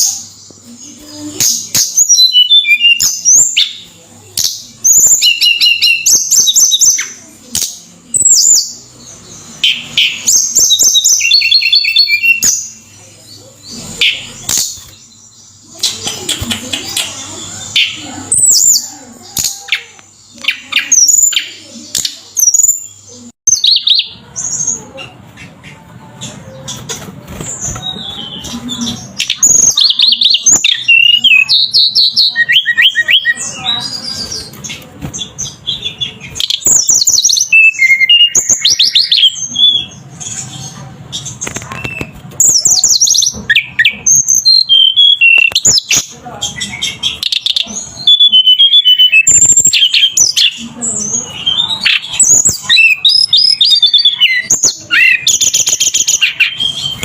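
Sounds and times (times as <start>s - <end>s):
songbird singing trills: 0.0s - 57.0s.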